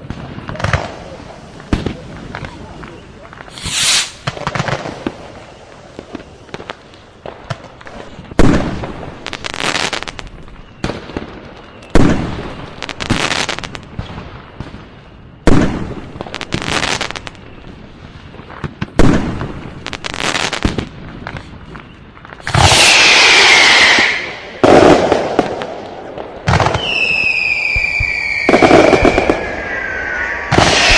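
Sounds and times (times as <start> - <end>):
loud firework bangs: 0.0 - 17.8, 18.5 - 21.5, 22.4 - 30.9
firework crackling pops: 0.0 - 30.9.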